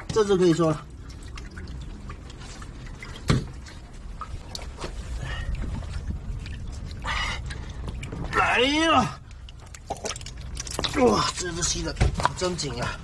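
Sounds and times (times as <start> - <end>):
water splashing and sloshing: 0.0 - 13.0
steady low rumble: 0.8 - 11.8.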